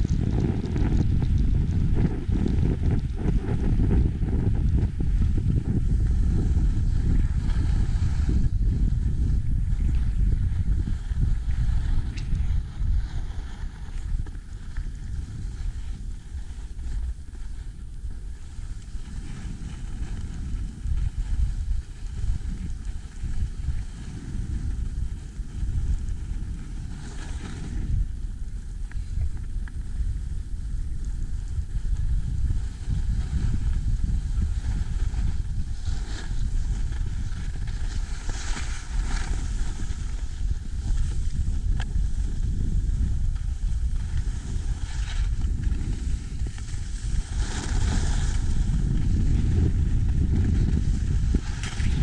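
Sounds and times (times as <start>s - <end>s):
wind buffeting microphone: 0.0s - 52.0s
skis hissing over snow: 5.2s - 52.0s.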